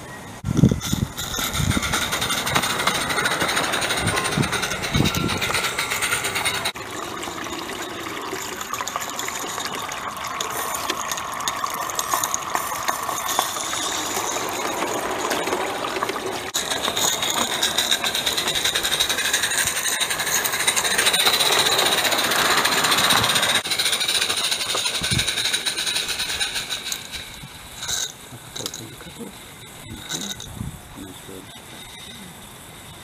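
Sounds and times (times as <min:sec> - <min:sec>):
wheel noise: 0:00.3 - 0:33.0
rattling exhaust beats: 0:00.4 - 0:06.8, 0:11.1 - 0:31.8
steam locomotive hissing: 0:00.8 - 0:06.8, 0:08.2 - 0:33.0.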